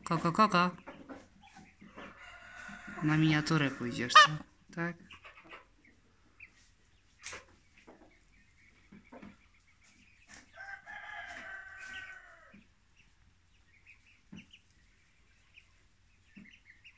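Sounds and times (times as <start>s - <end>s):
faint chicken clucks: 0.0s - 16.9s.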